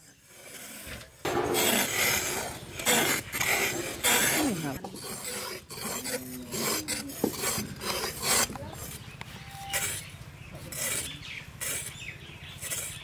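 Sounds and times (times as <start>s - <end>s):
blades scraping and slicing gourds: 0.0s - 13.0s.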